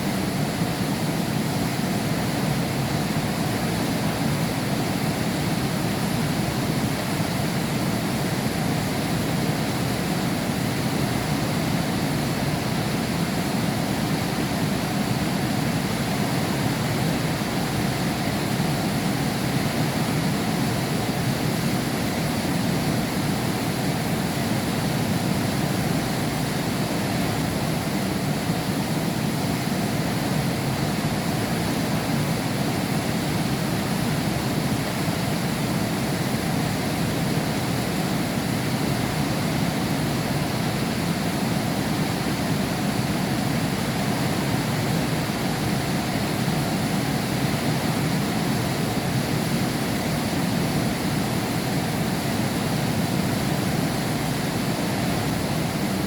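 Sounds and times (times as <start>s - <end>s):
heavy rain through window: 0.0s - 56.0s.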